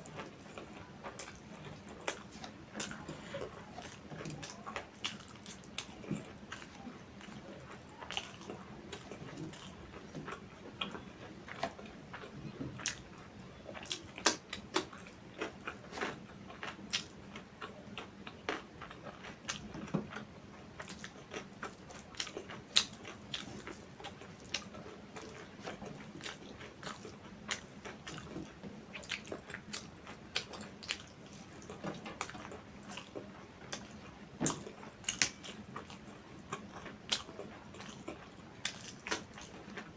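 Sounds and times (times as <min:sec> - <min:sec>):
chewing and mouth sounds: 0:00.0 - 0:39.9.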